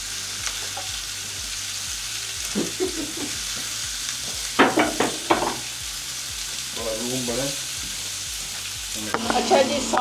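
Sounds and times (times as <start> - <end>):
steaks sizzling in a frying pan: 0.0 - 10.0.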